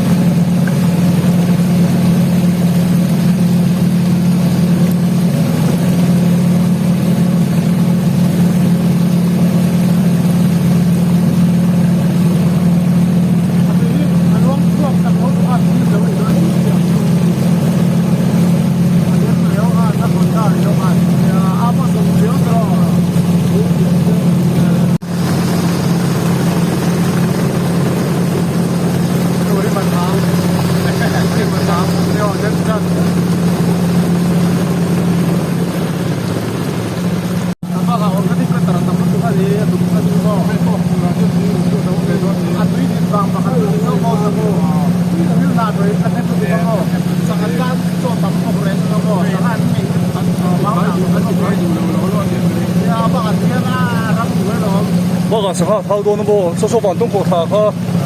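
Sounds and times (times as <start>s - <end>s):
motorboat engine running: 0.0s - 58.0s
water noise: 0.0s - 58.0s.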